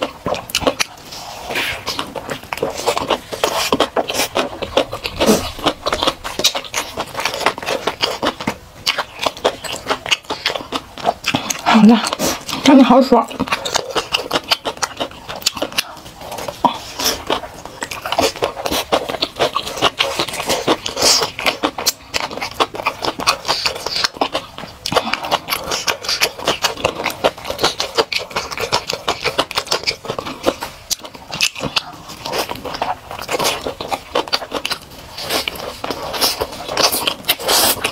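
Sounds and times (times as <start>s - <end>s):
wet chewing and lip smacking: 0.0s - 37.9s.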